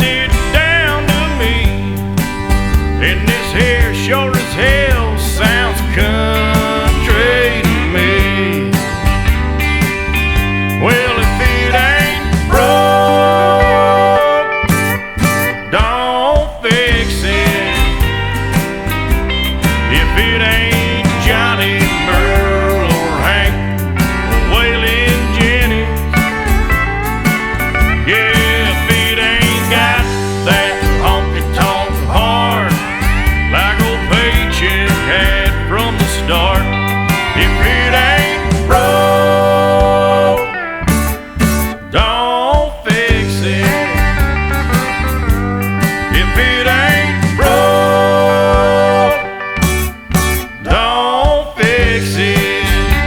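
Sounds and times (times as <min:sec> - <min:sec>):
country music with steel guitar: 0:00.0 - 0:53.0.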